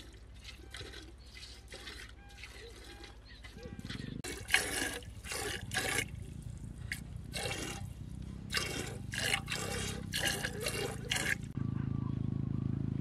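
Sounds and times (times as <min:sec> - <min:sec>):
milk squirting into metal can: 0:00.0 - 0:11.5.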